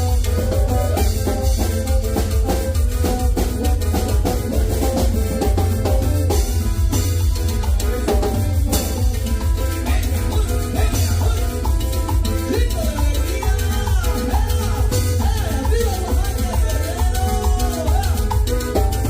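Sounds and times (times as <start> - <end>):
latin dance music: 0.0 - 19.0.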